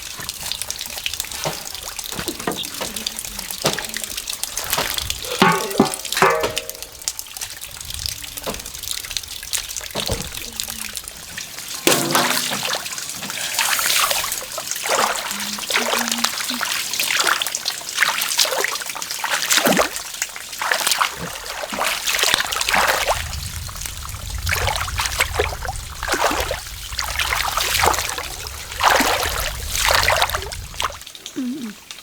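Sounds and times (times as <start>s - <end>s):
water splashing and trickling: 0.0s - 32.0s.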